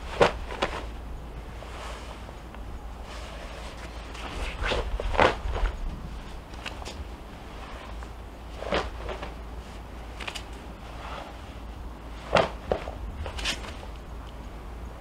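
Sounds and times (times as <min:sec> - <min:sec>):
clothing swishing: 0:00.0 - 0:14.0
low steady rumble: 0:00.0 - 0:15.0.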